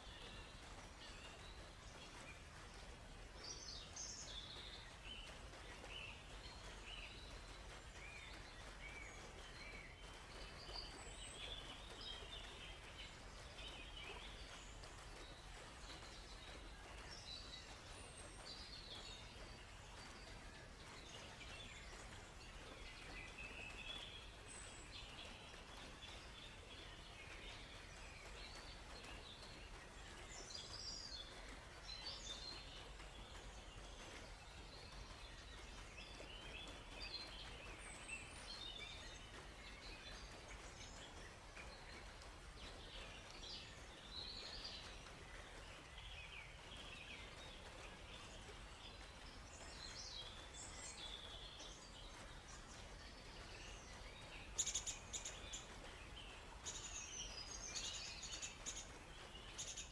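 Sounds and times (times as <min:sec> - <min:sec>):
small birds chirping and trilling: 0:00.0 - 0:59.9
steady background hiss: 0:00.0 - 0:59.9.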